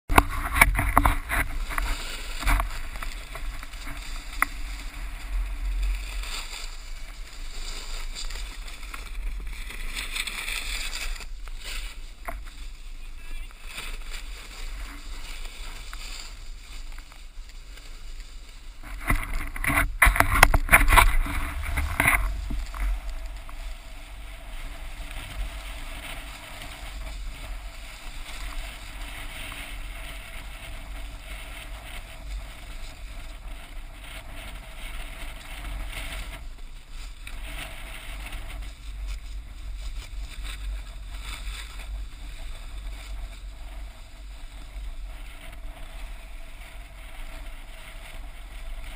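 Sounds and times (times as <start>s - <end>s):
snowboard scraping over snow: 0.1s - 48.9s.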